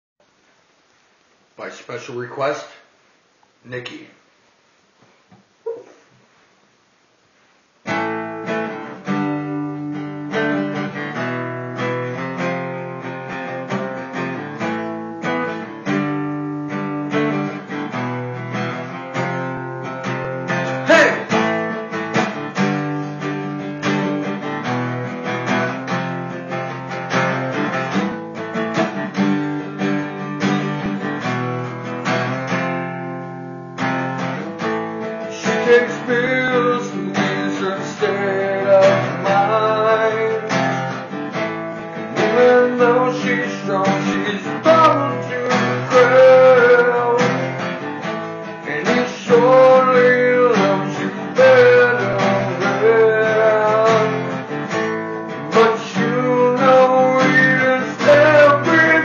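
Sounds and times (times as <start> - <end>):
acoustic guitar playing: 7.8 - 59.0.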